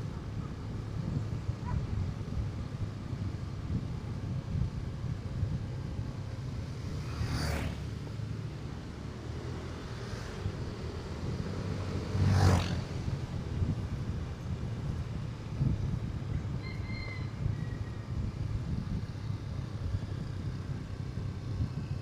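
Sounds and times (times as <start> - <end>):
wind buffeting microphone: 0.0 - 7.1, 10.4 - 22.0
motorcycle engine rumble: 0.0 - 22.0.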